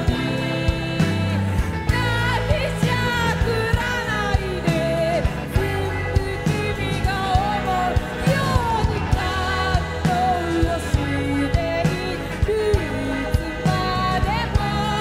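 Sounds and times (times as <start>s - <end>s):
drums: 0.0s - 15.0s
electric bass: 0.0s - 15.0s
electric guitar: 0.0s - 15.0s
woman singing: 0.0s - 15.0s.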